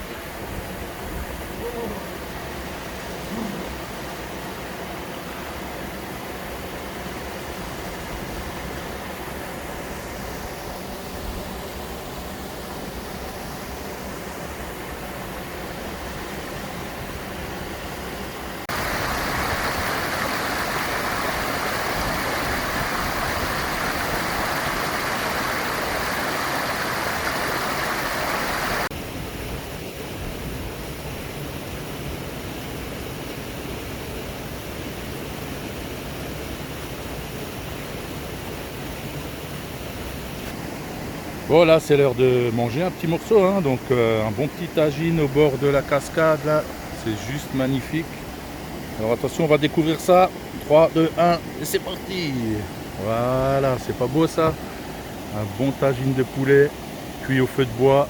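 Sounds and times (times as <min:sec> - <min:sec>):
rushing stream and waterfall: 0:00.0 - 0:58.0.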